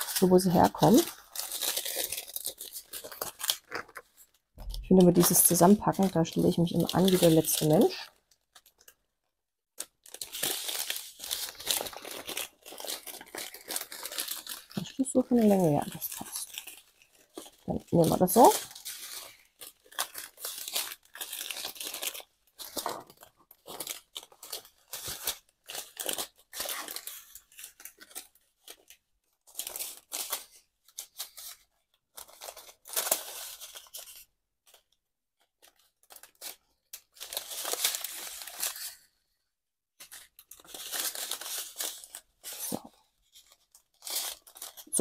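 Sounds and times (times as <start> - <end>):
plastic bags crinkling: 0.0 - 9.0, 9.8 - 34.9, 35.5 - 39.1, 40.0 - 45.0.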